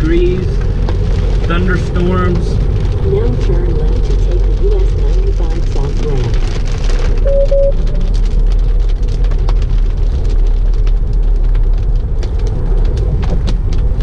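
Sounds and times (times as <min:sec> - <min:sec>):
tyres rumbling on wet road: 0:00.0 - 0:14.0
raindrops ticking on glass: 0:00.4 - 0:14.0.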